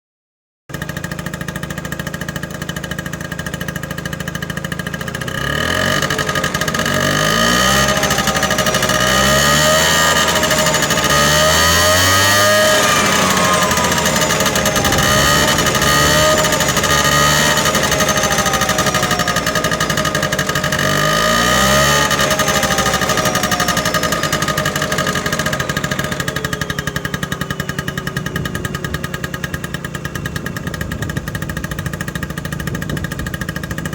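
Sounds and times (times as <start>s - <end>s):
scooter engine idling and revving: 0.7s - 33.9s.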